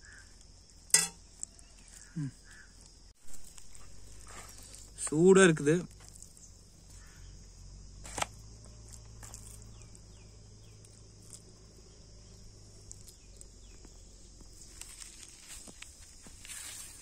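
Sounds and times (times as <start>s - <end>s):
high insect chirring: 0.0s - 17.0s.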